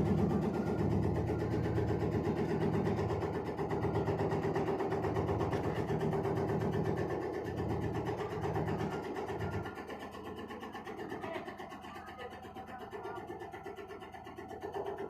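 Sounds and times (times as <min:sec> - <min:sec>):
shredding machine humming and chattering: 0:00.0 - 0:15.0.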